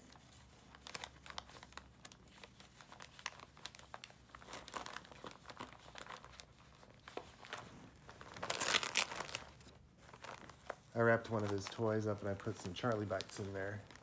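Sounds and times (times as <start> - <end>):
wrapping paper crinkling: 0.0 - 14.0.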